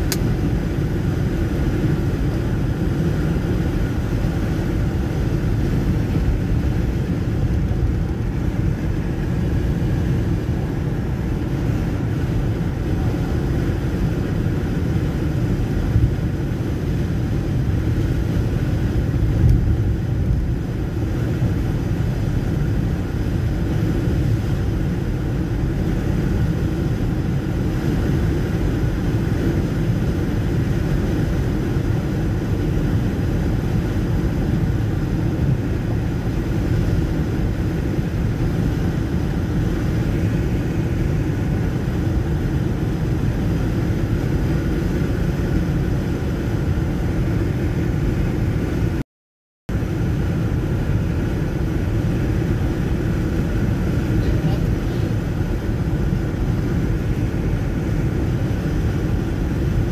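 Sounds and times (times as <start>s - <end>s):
car road rumble from cabin: 0.0s - 49.0s, 49.7s - 59.9s.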